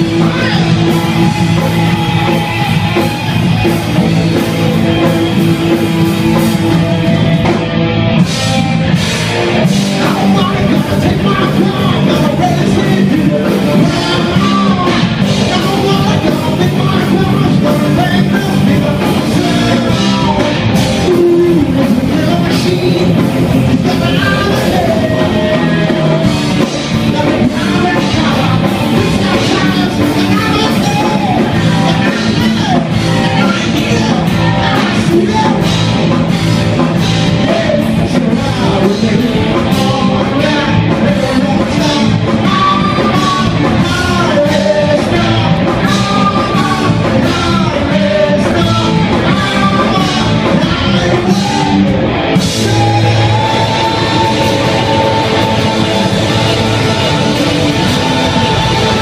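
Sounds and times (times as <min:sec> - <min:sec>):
drum kit: 0:00.0 - 0:59.0
electric guitars: 0:00.0 - 0:59.0
person singing: 0:09.9 - 0:59.0.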